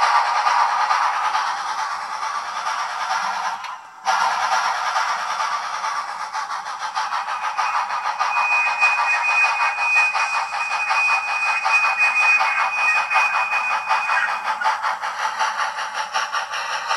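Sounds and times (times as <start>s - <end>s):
model train steam chuffs: 0.0s - 16.9s.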